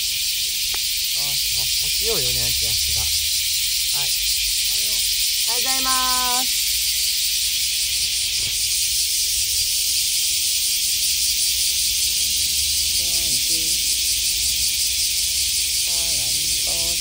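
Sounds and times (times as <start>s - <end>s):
cicada chorus: 0.0s - 17.0s.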